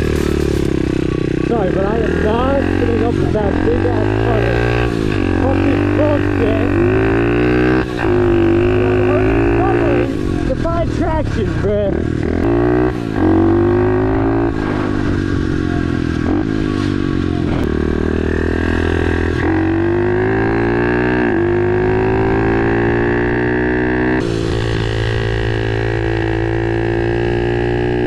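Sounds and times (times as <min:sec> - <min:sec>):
motorbike engine accelerating: 0:00.0 - 0:28.0.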